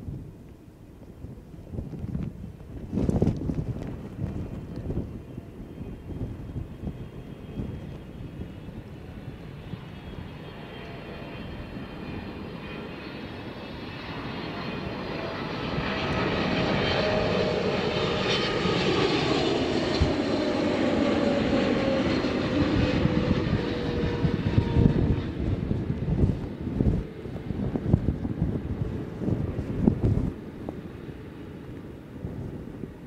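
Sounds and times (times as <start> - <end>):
jet engine whine: 0.0 - 33.0
jet engines rumbling: 0.0 - 33.0.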